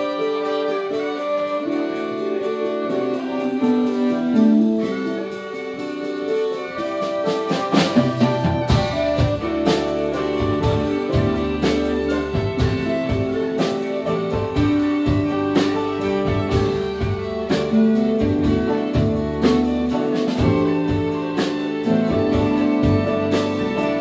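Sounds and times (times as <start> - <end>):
drum beat: 0.0 - 24.0
live band melody: 0.0 - 24.0.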